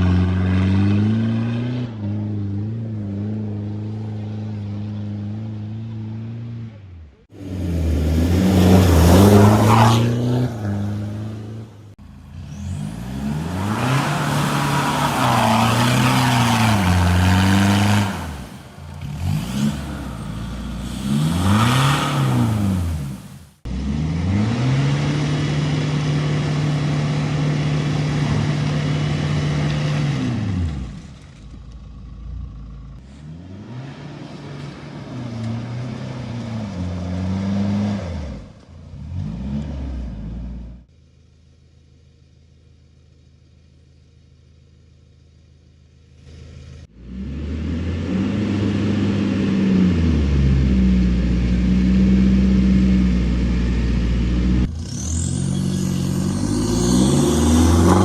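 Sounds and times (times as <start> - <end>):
diesel engine revving: 0.0 - 40.9, 46.3 - 58.0.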